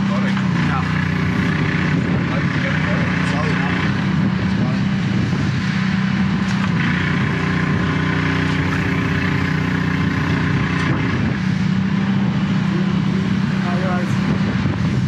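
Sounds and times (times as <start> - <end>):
drain jetter engine droning: 0.0 - 15.0.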